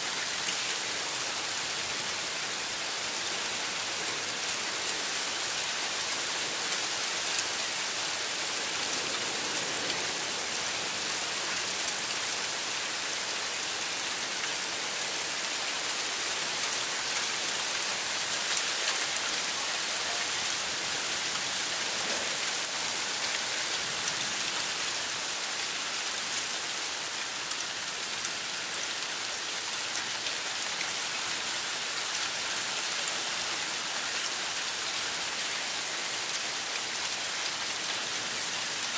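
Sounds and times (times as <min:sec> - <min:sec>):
heavy rain on roofs and pavement: 0:00.0 - 0:38.9.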